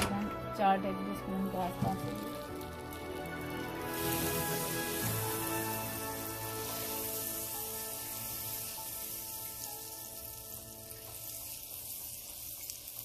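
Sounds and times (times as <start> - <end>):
butter sizzling in pan: 1.4 - 13.0.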